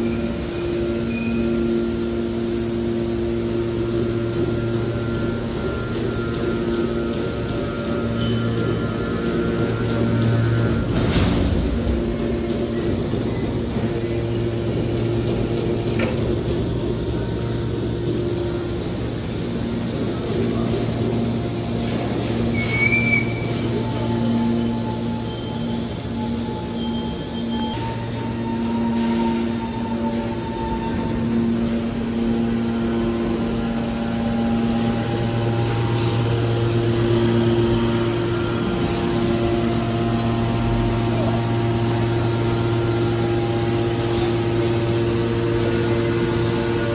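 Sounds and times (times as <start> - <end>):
industrial machinery drone: 0.0 - 46.9.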